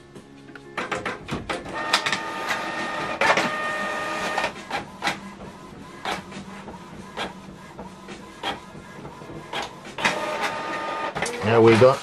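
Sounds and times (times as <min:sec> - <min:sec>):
printer feed motor whirring: 0:01.0 - 0:12.0.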